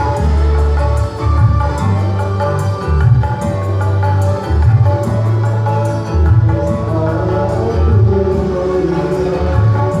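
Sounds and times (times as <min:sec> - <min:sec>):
music through loud sound system: 0:00.0 - 0:10.0.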